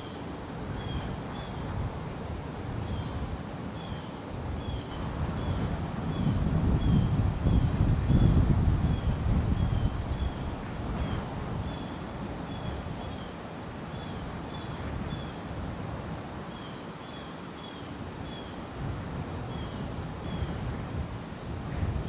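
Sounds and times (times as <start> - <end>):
wind blowing over microphone: 0.0 - 16.6, 17.9 - 22.0
wind through trees: 0.0 - 22.0.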